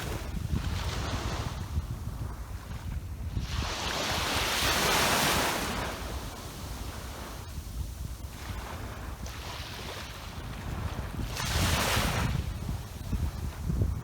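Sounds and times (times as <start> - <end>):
waves breaking on beach: 0.0 - 14.0
wind rumbling on microphone: 0.0 - 14.0.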